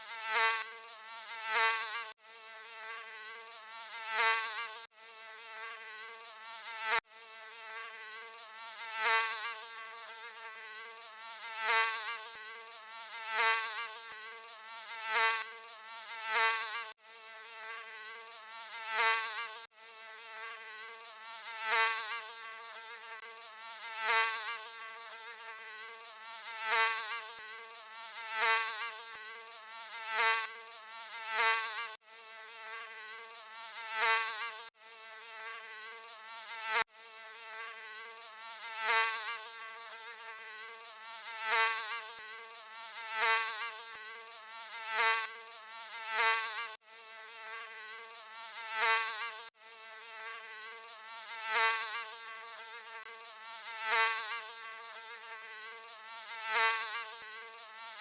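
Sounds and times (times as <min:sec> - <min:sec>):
mosquito buzzing: 0:00.0 - 0:58.0.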